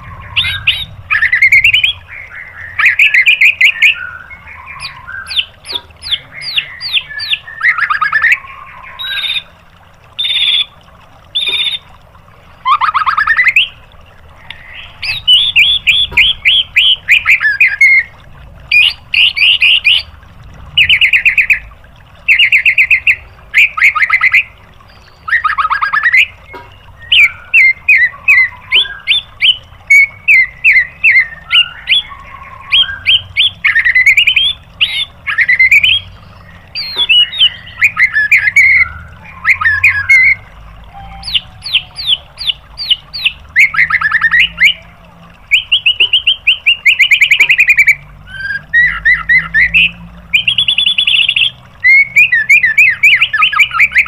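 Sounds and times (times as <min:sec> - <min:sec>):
bird singing trills and whistles: 0:00.0 - 0:09.6, 0:10.2 - 0:10.7, 0:11.3 - 0:11.9, 0:12.6 - 0:13.8, 0:14.4 - 0:18.1, 0:18.7 - 0:20.1, 0:20.8 - 0:54.0.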